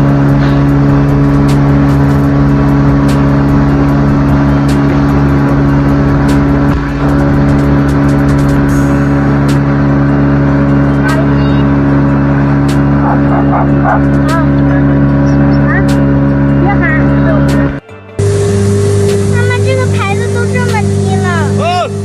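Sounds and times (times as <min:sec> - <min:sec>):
engine running at steady revs: 0:00.0 - 0:22.0.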